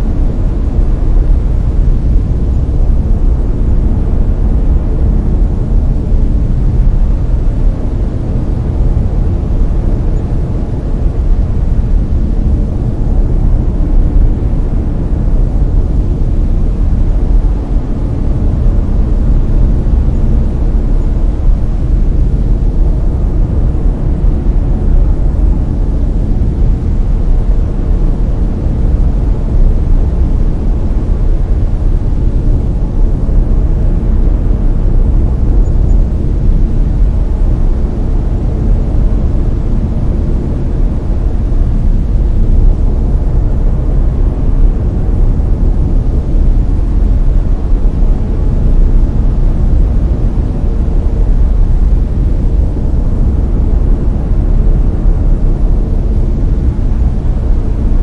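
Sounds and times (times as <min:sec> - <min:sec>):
deep rumbling brown noise: 0:00.0 - 0:58.0.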